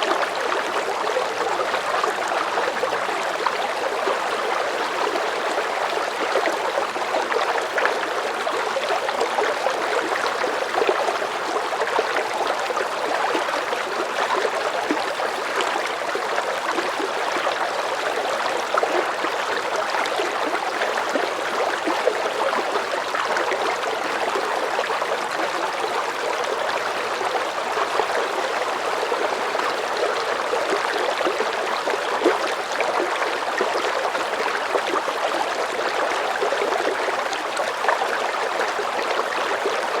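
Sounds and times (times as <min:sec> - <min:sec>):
river water rushing and burbling: 0:00.0 - 0:40.0.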